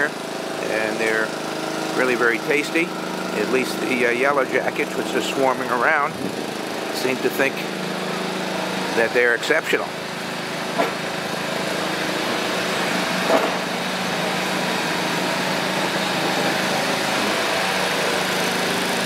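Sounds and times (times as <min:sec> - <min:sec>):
grape crusher machine humming: 0:00.0 - 0:19.0.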